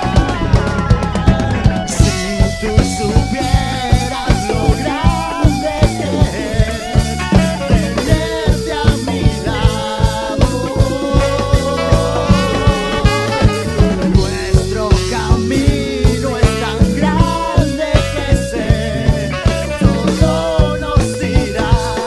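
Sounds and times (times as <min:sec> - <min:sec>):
latin fusion band playing: 0:00.0 - 0:22.0.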